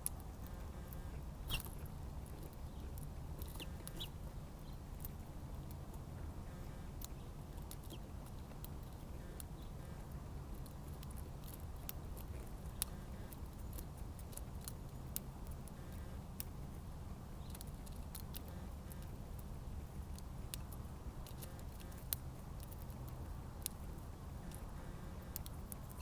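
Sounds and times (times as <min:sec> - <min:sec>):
birds pecking seed: 0:00.0 - 0:26.0.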